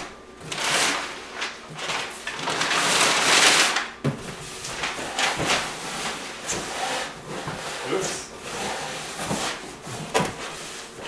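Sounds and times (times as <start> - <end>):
cardboard and packing rustling: 0.0 - 11.0.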